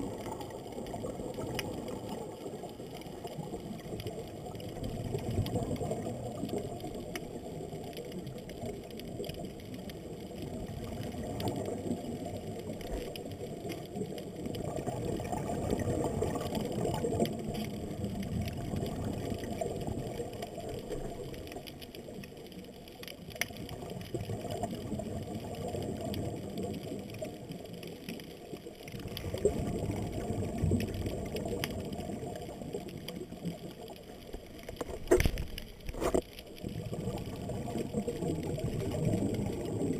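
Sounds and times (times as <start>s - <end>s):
exhaled bubbles underwater: 0.0s - 39.9s.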